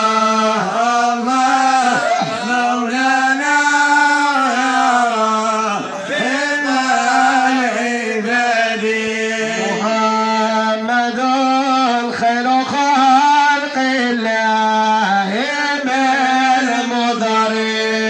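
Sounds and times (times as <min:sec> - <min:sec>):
man chanting melismatic song: 0:00.0 - 0:18.0.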